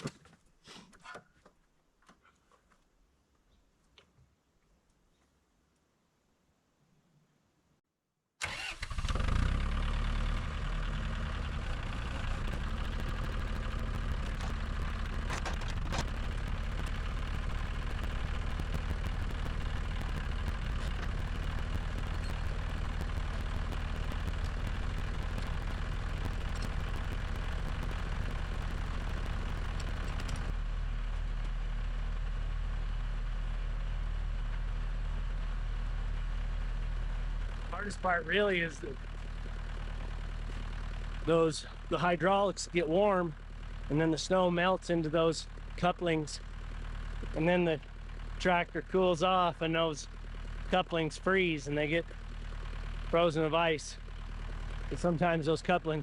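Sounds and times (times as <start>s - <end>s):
tractor engine starting and running: 8.4s - 56.0s.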